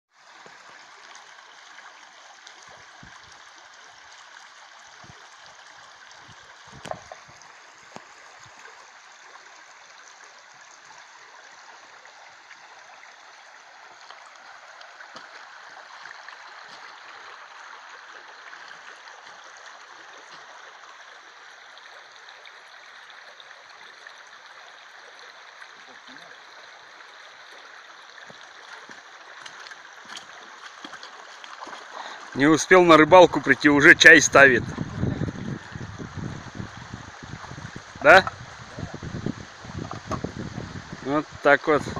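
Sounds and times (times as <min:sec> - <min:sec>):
river water rushing: 0:00.1 - 0:41.9.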